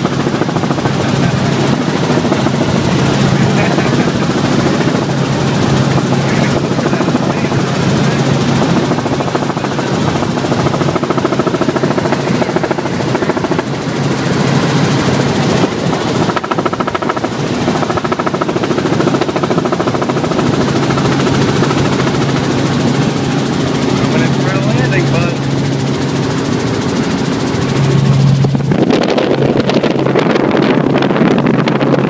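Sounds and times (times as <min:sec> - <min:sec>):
engine and gearbox hum: 0:00.0 - 0:32.0
helicopter rotor chop: 0:00.0 - 0:32.0.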